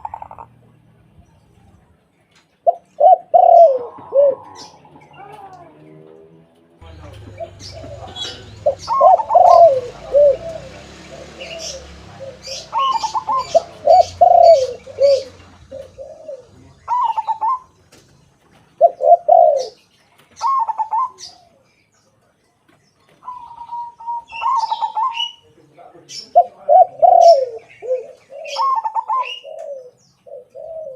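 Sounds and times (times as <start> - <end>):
doves cooing: 0.0 - 1.2, 2.6 - 21.8, 23.0 - 30.9
small birds chirping: 0.0 - 30.9.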